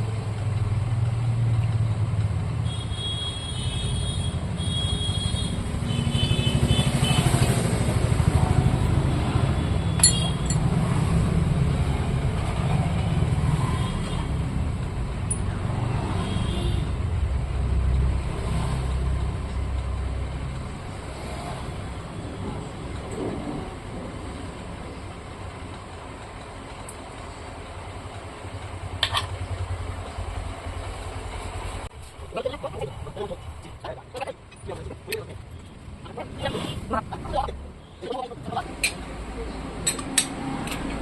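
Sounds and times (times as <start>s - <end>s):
vehicle engines rumbling: 0.0s - 41.0s.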